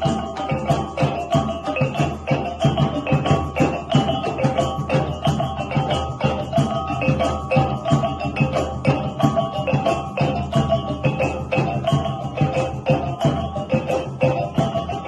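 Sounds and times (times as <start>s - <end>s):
music with percussive beat: 0.0s - 15.0s.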